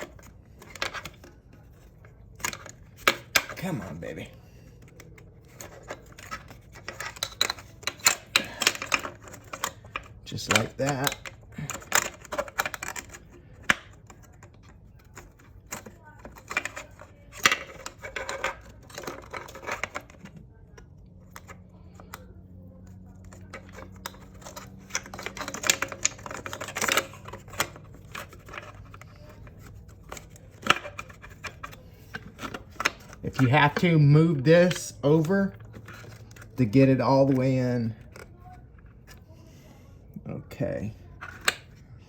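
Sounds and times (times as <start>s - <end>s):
metal parts clicking and tapping: 0.0s - 4.0s, 4.7s - 22.2s, 22.8s - 39.2s.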